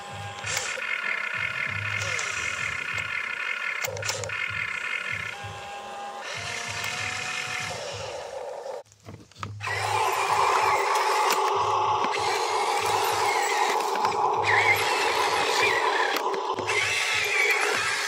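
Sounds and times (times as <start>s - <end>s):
toy truck motor whining: 0.0s - 18.0s.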